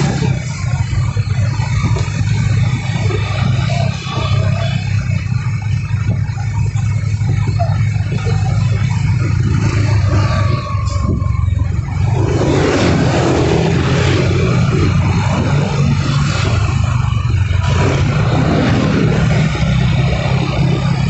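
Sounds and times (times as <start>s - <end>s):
low engine drone: 0.0s - 21.0s
street traffic noise: 0.0s - 21.0s.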